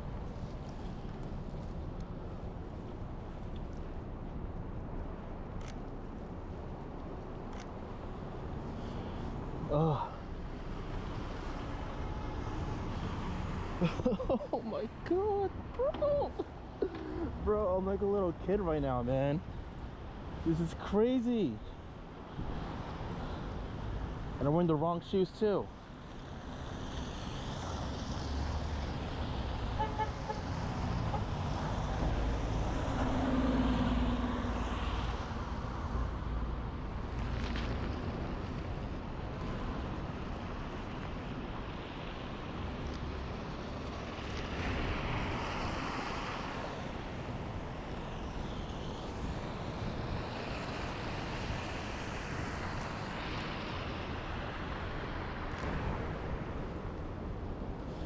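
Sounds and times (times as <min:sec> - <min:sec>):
passing vehicles: 0:00.0 - 0:58.0.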